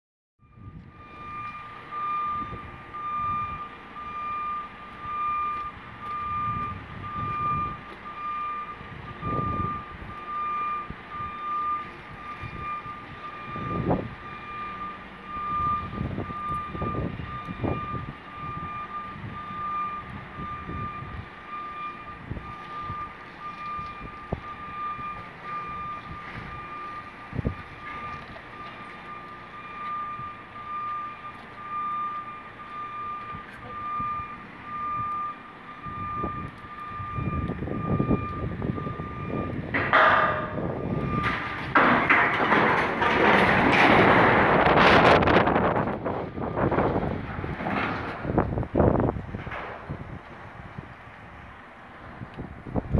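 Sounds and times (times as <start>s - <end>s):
reversing alarm beeps: 0.4s - 43.1s
diesel engine running: 0.4s - 52.9s.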